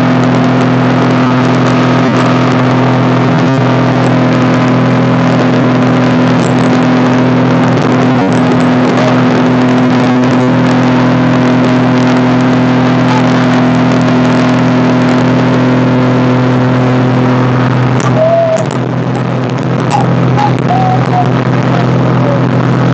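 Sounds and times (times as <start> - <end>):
engine running steadily: 0.0 - 22.9.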